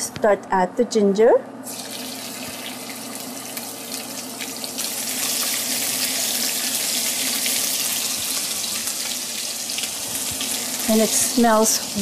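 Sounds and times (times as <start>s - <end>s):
ginger sizzling in hot oil: 1.7s - 12.0s.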